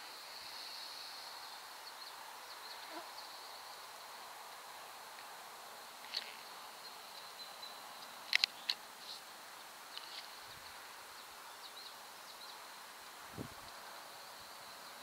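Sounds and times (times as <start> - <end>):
soft hiss: 0.0 - 15.0.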